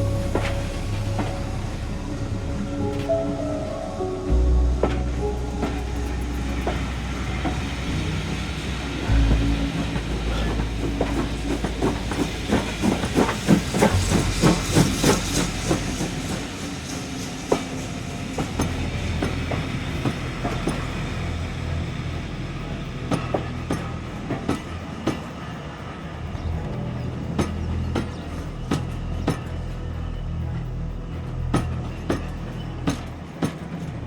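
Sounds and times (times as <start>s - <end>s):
train rumbling past: 0.0s - 34.0s
train wheels clicking: 0.0s - 34.0s.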